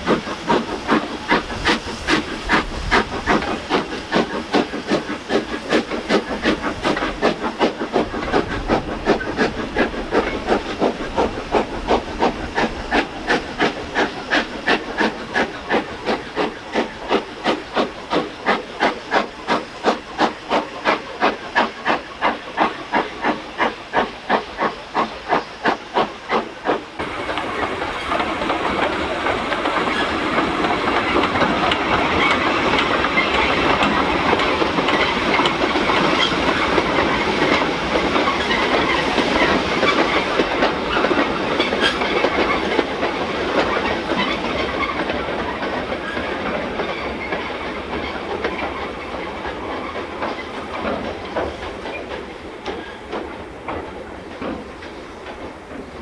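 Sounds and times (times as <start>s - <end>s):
steam locomotive chuffing: 0.0s - 56.0s
train rolling noise: 0.0s - 56.0s.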